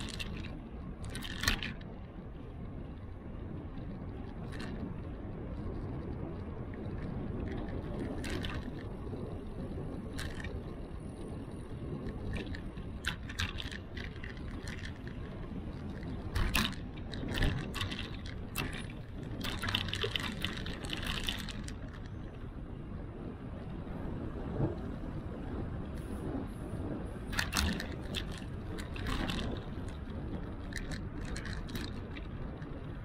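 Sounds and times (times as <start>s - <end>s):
road rumble: 0.0s - 33.0s
wind noise: 0.0s - 33.0s.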